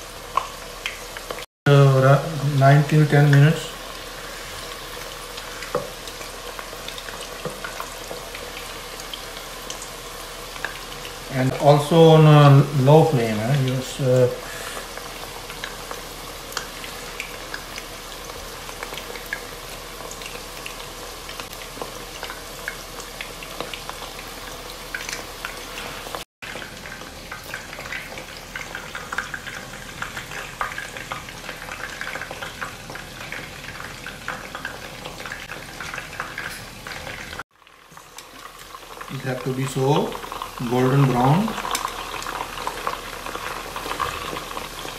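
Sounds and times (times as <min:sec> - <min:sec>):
chicken deep-frying in oil: 0:00.0 - 0:44.9.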